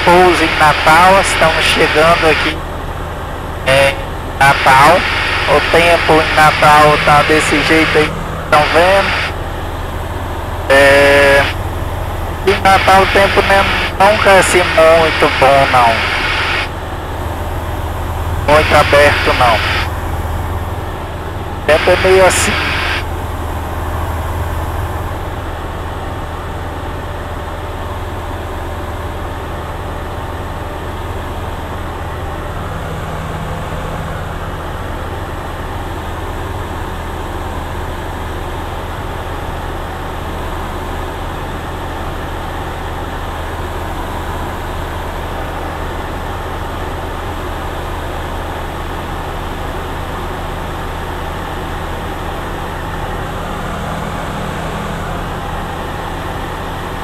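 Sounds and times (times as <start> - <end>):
propeller plane engine hum: 0.0 - 57.0.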